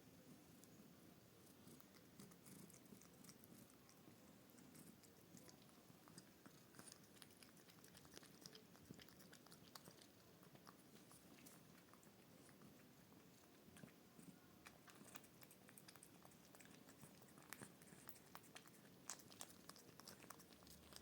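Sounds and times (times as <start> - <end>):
cat chewing: 1.4 - 21.0.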